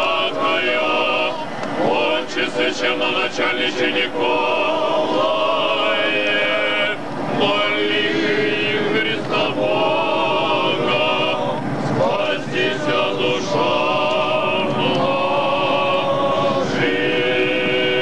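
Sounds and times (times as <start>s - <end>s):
choir chanting held chords: 0.0s - 18.0s.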